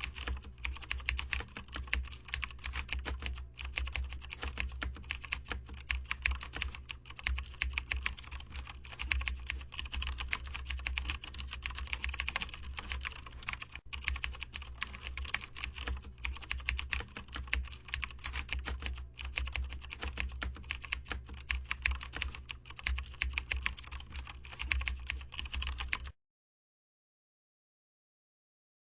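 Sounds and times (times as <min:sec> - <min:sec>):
steady low hum: 0:00.0 - 0:26.1
keyboard typing: 0:00.0 - 0:26.2.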